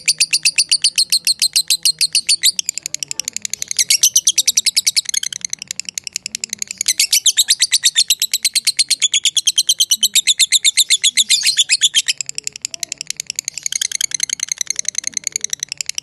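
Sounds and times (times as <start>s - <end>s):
lovebird chattering: 0.0s - 16.0s.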